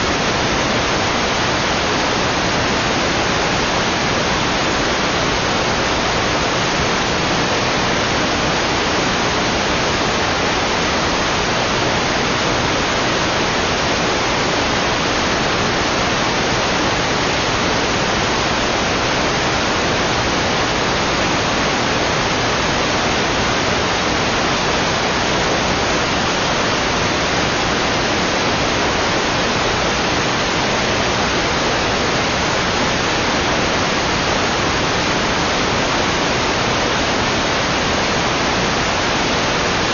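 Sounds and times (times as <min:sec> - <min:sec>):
electronic static hiss: 0:00.0 - 0:39.9.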